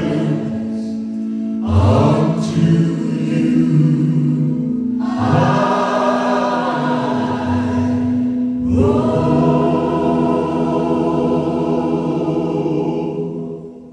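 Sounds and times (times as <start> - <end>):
gospel choir singing: 0.0 - 13.9.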